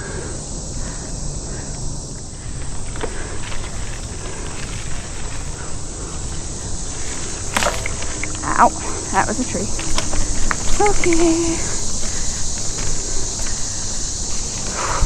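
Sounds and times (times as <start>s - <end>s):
insect hiss: 0.0s - 15.0s
bike rolling on dirt: 1.6s - 15.0s
bike clicks and rattles: 2.3s - 15.0s.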